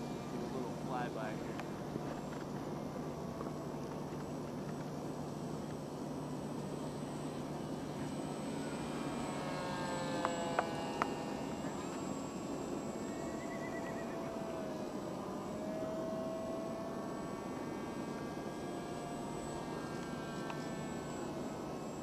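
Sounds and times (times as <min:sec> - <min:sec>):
faint whine: 0:00.0 - 0:22.0
model plane motor drone: 0:00.0 - 0:22.0.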